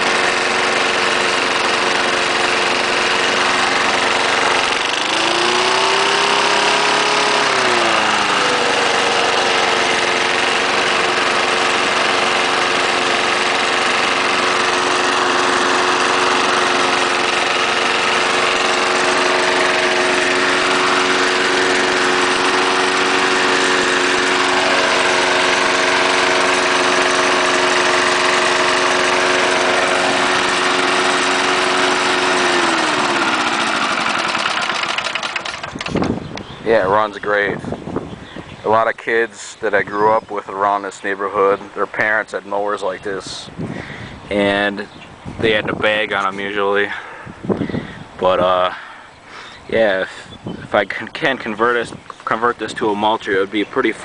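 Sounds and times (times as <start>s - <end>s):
lawnmower engine running: 0.0s - 54.0s.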